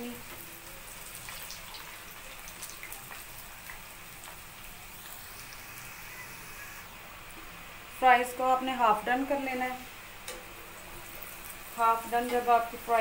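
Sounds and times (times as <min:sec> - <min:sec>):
fries sizzling in hot oil: 0:00.0 - 0:13.0.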